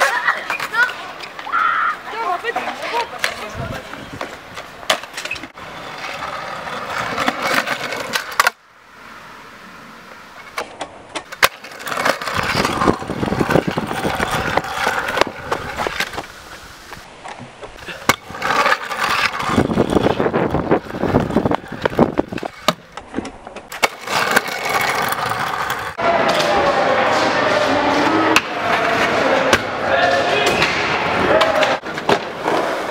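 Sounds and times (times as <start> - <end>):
scooter wheels rolling on concrete: 0.0 - 32.9.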